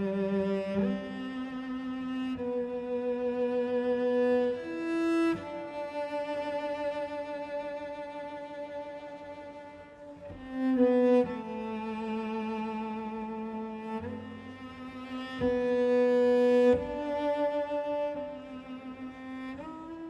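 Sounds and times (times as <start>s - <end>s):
solo cello bowed notes: 0.0s - 20.0s.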